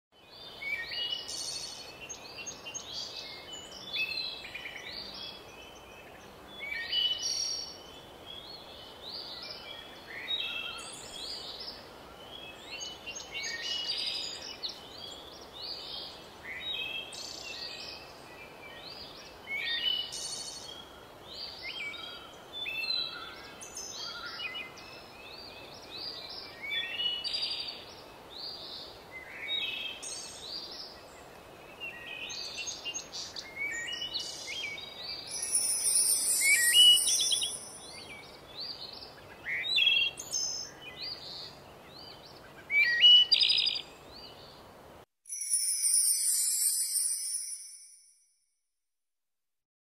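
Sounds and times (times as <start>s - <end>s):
songbirds singing: 0.2s - 44.7s
faint background hiss: 0.2s - 48.2s.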